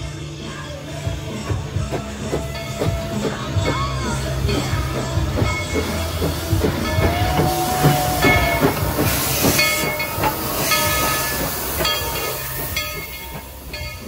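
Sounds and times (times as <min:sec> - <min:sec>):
steam locomotive running: 0:00.0 - 0:14.0
steam hissing: 0:00.2 - 0:14.0.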